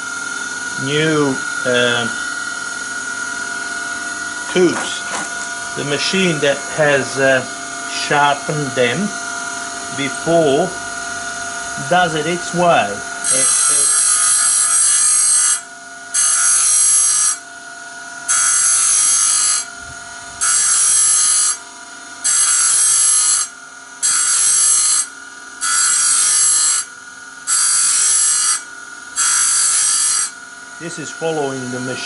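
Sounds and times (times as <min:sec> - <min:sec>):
grinder motor whining: 0:00.0 - 0:32.0
grinder cutting steel blade teeth: 0:00.3 - 0:09.0, 0:11.8 - 0:17.4, 0:18.2 - 0:19.8, 0:20.4 - 0:21.6, 0:22.2 - 0:32.0.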